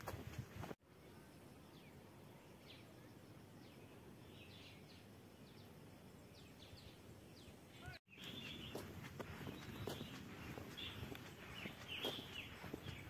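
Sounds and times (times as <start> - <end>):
faint outdoor ambience: 0.0 - 13.0
bird chirping: 1.0 - 13.0.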